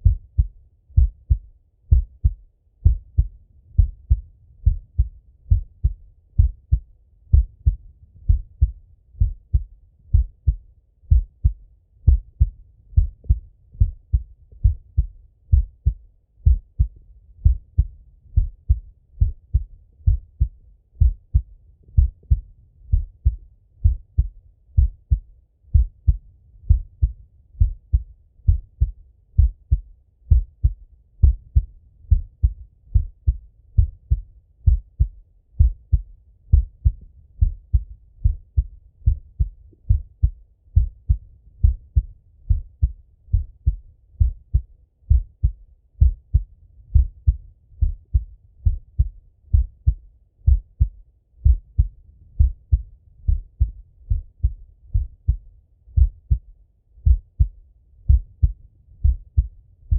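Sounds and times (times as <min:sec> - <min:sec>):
heartbeat through stethoscope: 0:00.0 - 0:59.9.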